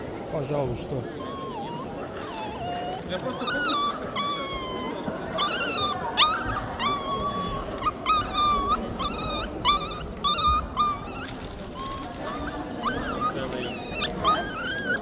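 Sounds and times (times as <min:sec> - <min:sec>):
dog whining: 0:00.8 - 0:15.0.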